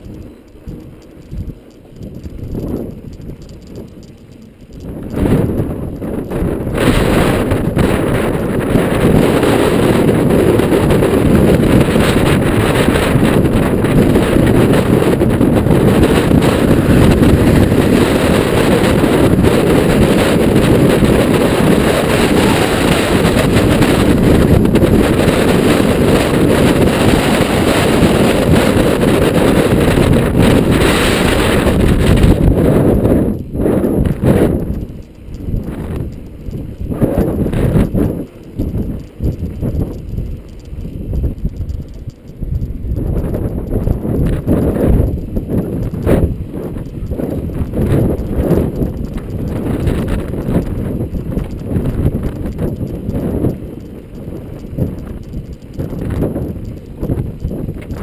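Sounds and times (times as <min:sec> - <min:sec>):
wind gusts buffeting microphone: 0:00.0 - 0:58.0.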